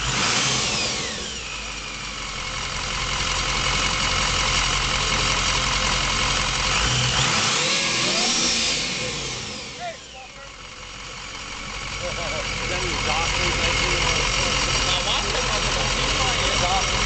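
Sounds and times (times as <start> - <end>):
diesel engine idling: 0.0 - 17.0
supercharger whine: 0.0 - 17.0.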